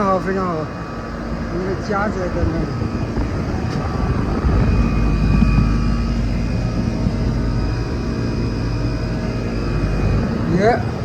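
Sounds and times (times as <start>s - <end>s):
compressor hum: 0.0s - 11.0s
condenser fan running: 0.0s - 11.0s.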